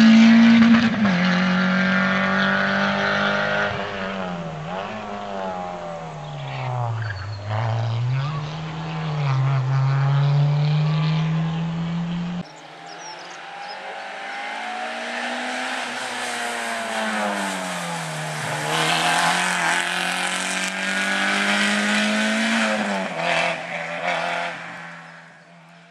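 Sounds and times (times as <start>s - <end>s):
car engine revving hard: 0.0s - 25.9s.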